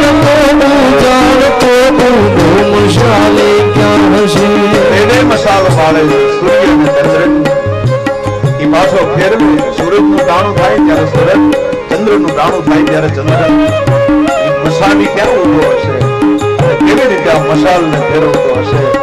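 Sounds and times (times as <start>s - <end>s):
held melody notes: 0.0s - 19.0s
tabla playing a rhythm: 0.0s - 19.0s.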